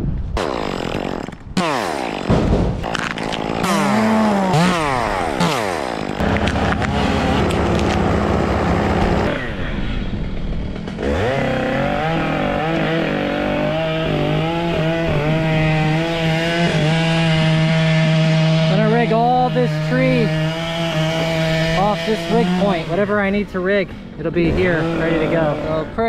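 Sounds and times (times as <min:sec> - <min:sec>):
chainsaw revving and idling: 0:00.4 - 0:26.0.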